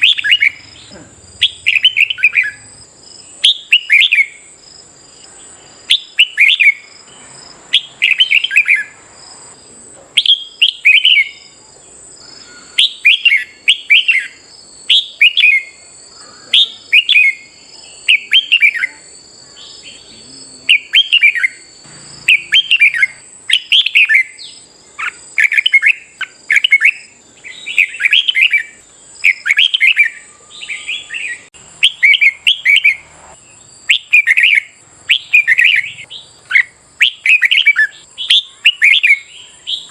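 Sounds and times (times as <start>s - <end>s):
bird singing: 0.0s - 39.9s
faint high whine: 0.0s - 39.9s.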